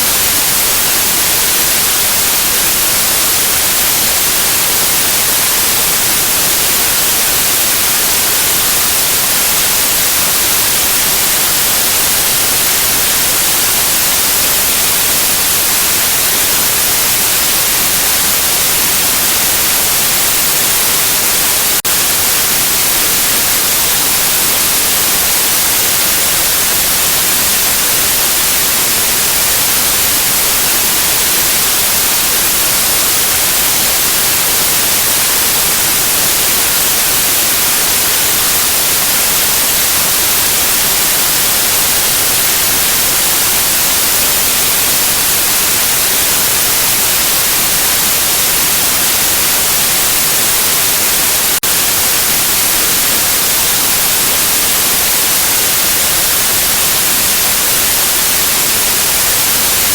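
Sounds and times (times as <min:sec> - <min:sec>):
loud white noise hiss: 0:00.0 - 0:59.9.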